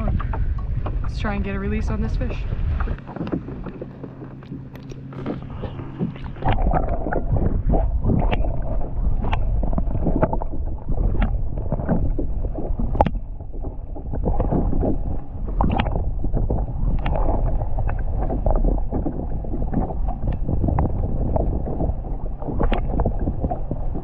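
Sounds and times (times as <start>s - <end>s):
muffled underwater water sloshing: 0.0s - 24.0s.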